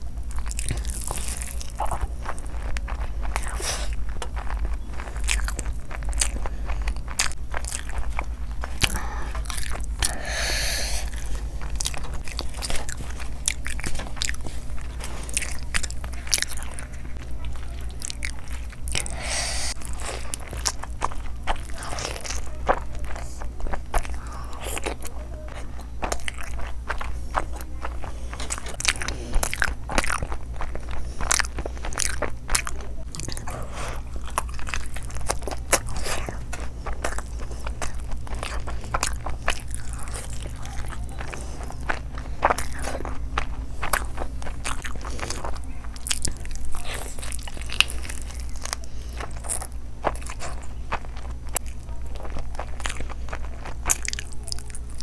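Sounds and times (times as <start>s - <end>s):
crunchy chewing: 0.0s - 55.0s
steady low hum: 0.0s - 55.0s.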